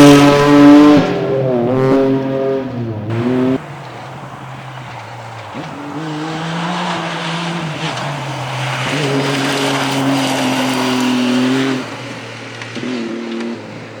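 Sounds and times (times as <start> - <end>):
rally car engine under load: 0.0 - 14.0.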